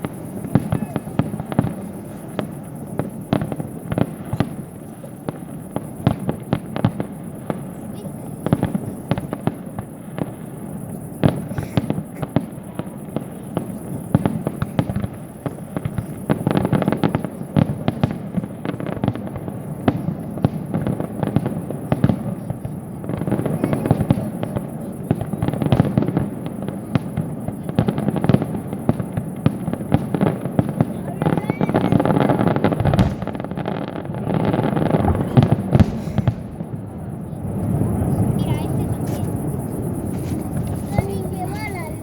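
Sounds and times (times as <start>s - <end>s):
fireworks bangs and crackling: 0.0s - 42.0s.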